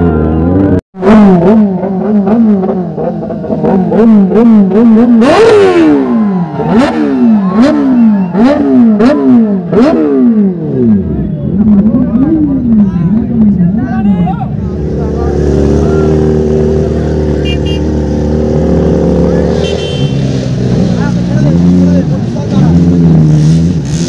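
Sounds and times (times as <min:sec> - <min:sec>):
motorcycle engine revving: 0:00.0 - 0:13.8, 0:14.5 - 0:24.0.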